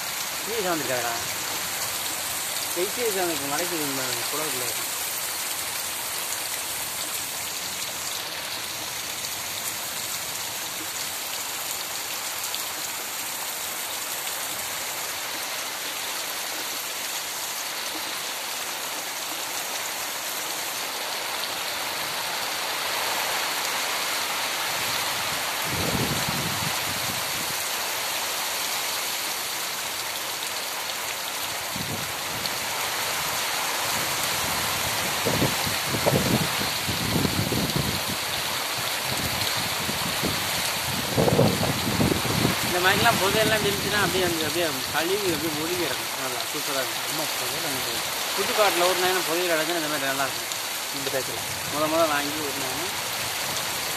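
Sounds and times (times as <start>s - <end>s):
heavy rain on earth: 0.0s - 53.9s.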